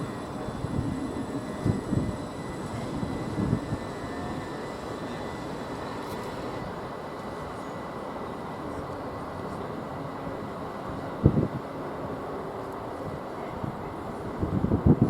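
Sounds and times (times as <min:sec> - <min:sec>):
faint high whine: 0:00.0 - 0:15.0
train rumbling: 0:00.0 - 0:15.0.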